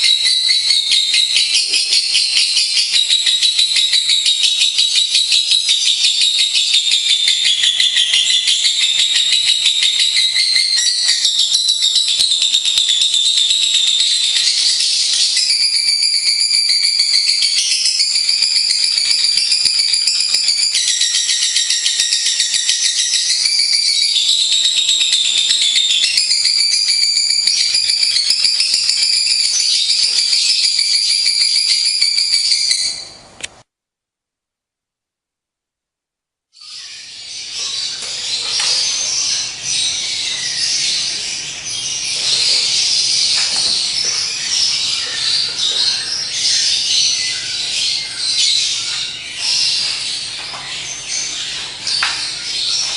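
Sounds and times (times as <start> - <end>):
lovebirds chattering trill: 0.0 - 33.0, 36.6 - 52.9.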